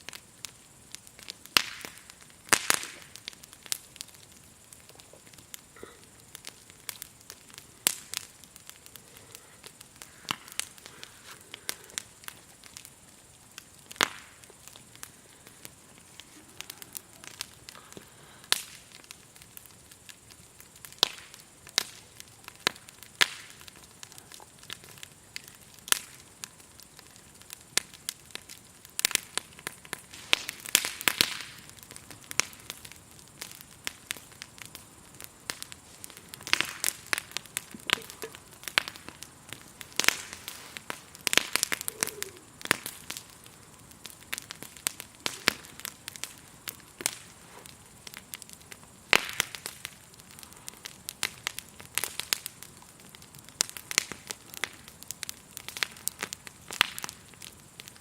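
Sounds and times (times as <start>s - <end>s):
campfire crackling and popping: 0.0s - 58.0s
grasshoppers chirring: 0.2s - 58.0s.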